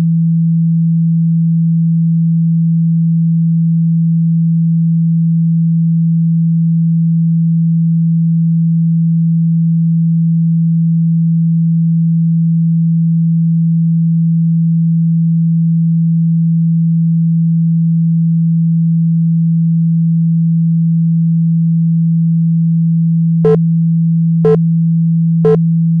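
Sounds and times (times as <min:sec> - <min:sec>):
low sine tone: 0:00.0 - 0:26.0.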